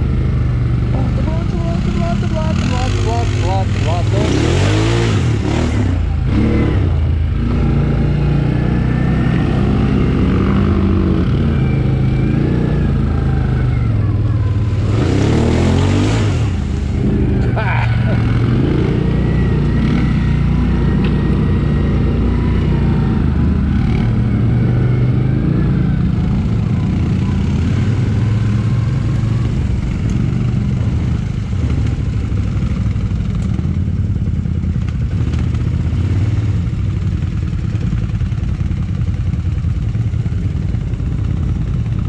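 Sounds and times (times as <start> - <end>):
quad bike engine running: 0.0 - 42.0.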